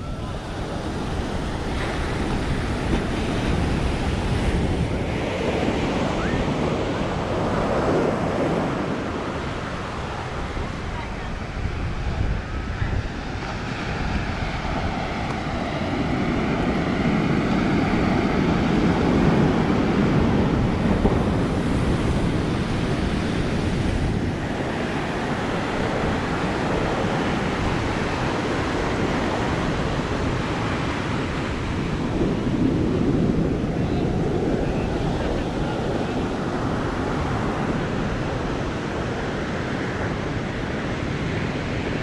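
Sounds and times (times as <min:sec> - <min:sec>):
surf washing onto sandy beach: 0:00.0 - 0:42.0
wind buffeting microphone: 0:00.0 - 0:42.0.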